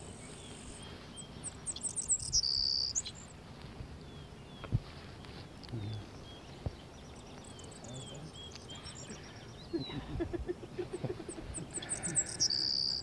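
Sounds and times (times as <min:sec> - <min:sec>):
faint outdoor background noise: 0:00.0 - 0:13.0
small birds chirping: 0:00.0 - 0:13.0.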